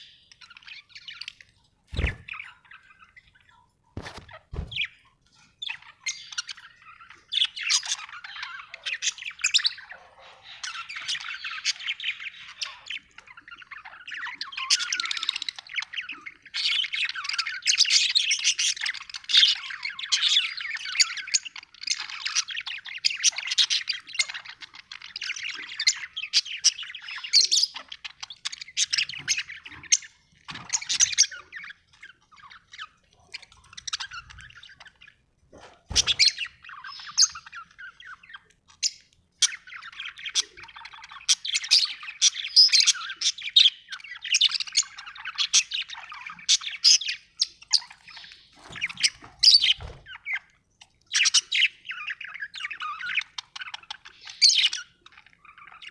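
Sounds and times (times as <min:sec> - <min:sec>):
budgerigar chirping and warbling: 0:05.6 - 0:50.5, 0:51.1 - 0:55.9.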